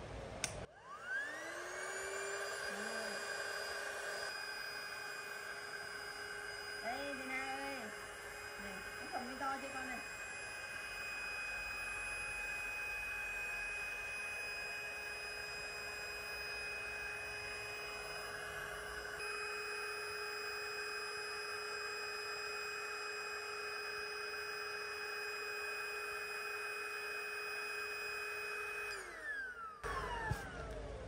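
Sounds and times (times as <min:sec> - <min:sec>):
electric air pump whine: 0:00.6 - 0:31.0.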